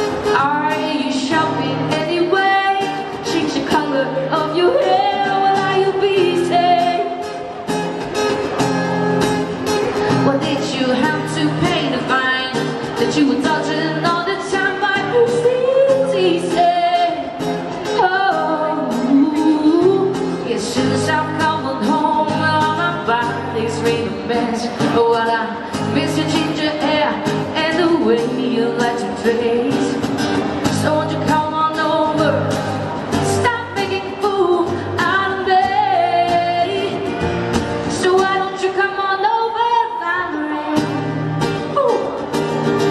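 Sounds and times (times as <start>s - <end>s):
woman singing pop song: 0.0s - 7.6s, 10.0s - 42.4s
acoustic guitar: 0.0s - 42.9s.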